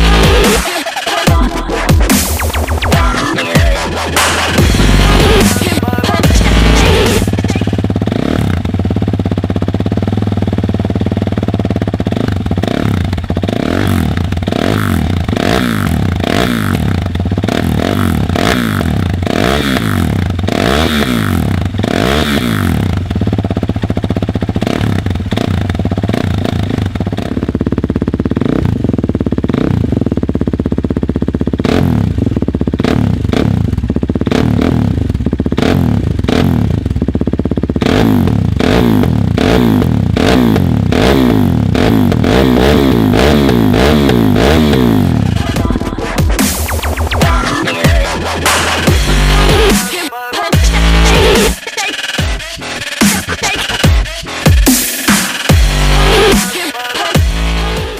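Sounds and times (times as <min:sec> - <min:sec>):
motorcycle engine revving and idling: 0:00.0 - 0:57.9.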